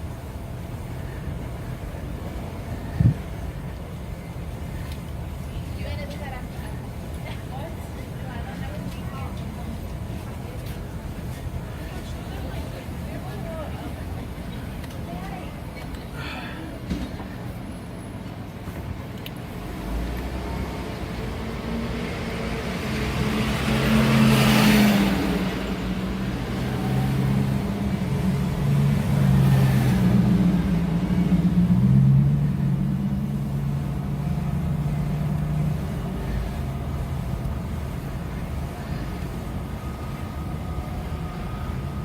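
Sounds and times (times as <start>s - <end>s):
road noise: 0.0s - 42.0s.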